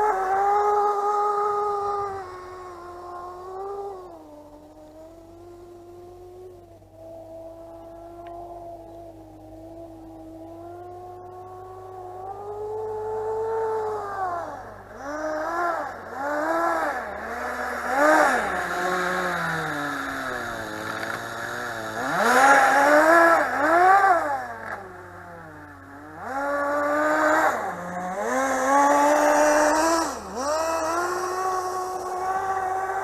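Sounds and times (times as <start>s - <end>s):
small nitro engine revving: 0.0s - 33.0s.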